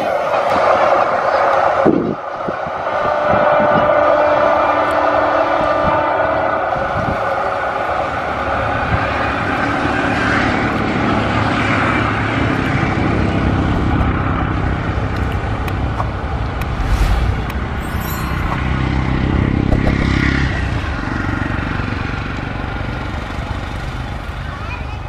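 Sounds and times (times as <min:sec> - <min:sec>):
diesel locomotive engine: 0:00.0 - 0:25.0
passenger train rumbling on rails: 0:00.0 - 0:25.0.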